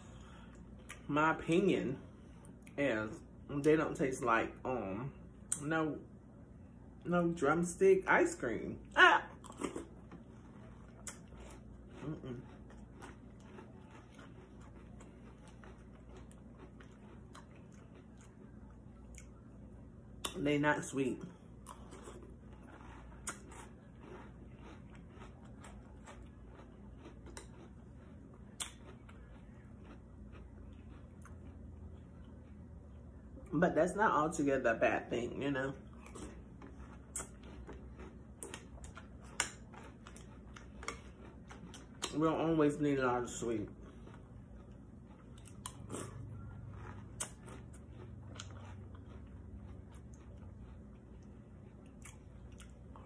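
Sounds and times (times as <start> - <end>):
chewing crunchy cereal: 7.7 - 33.0, 34.2 - 53.0.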